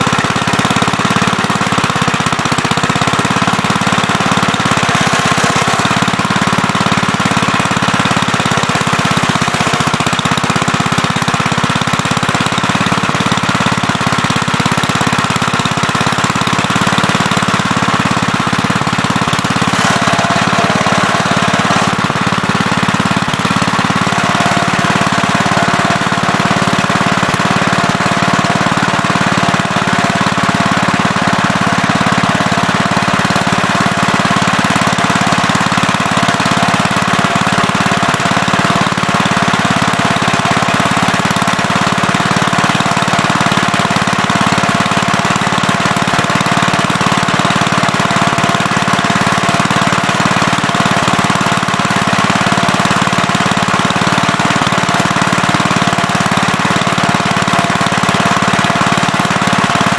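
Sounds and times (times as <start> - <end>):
backhoe engine running: 0.0 - 59.9.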